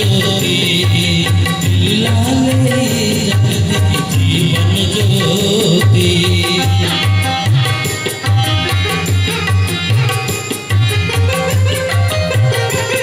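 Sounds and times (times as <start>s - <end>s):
drum beat: 0.0s - 13.0s
melody instruments: 1.8s - 13.0s.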